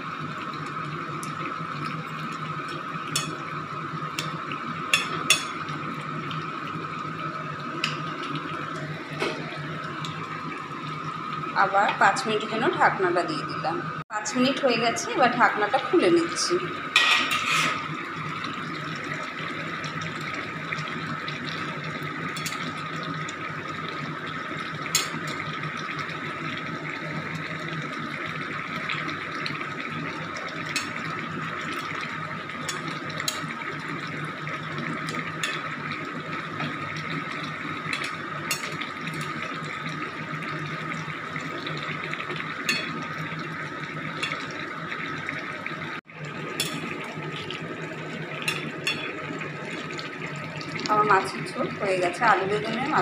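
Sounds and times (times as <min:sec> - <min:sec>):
curry bubbling and popping: 0:00.0 - 0:13.1, 0:15.5 - 0:53.0.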